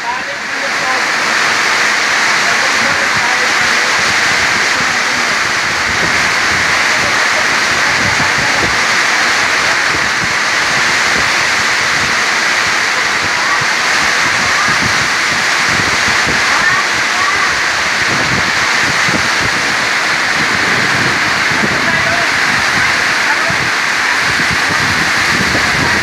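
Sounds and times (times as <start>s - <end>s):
heavy rain pouring: 0.0s - 26.0s
low wind gusts: 0.0s - 26.0s.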